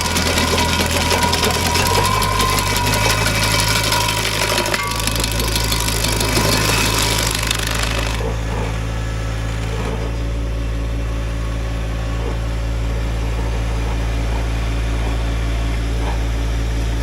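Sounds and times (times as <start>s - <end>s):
stump grinder wheel grinding: 0.0s - 17.0s
tractor engine running: 0.0s - 17.0s.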